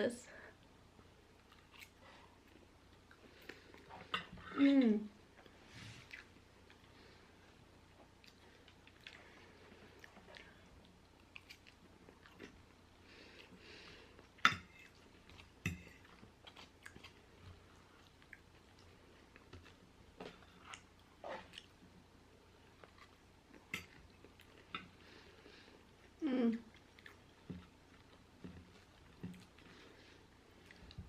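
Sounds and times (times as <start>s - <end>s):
person chewing food: 1.0s - 4.4s, 5.4s - 31.0s.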